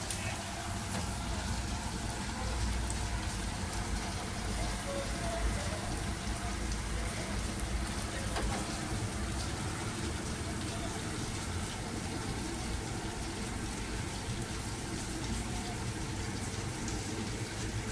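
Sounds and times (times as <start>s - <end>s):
rain falling on trees and pavement: 0.0s - 17.9s.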